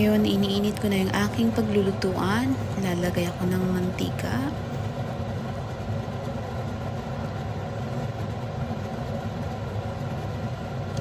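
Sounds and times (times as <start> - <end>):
fan or motor humming: 0.0 - 11.0.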